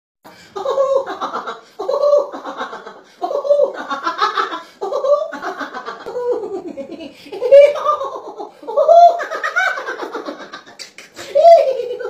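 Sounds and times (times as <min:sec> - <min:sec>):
person laughing high-pitched: 0:00.6 - 0:12.0.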